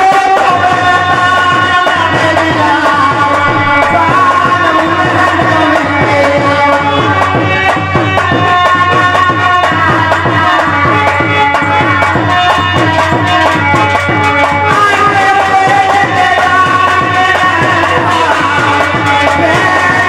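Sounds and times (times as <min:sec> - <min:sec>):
dholak drum rhythm: 0:00.0 - 0:20.0
harmonium: 0:00.0 - 0:20.0.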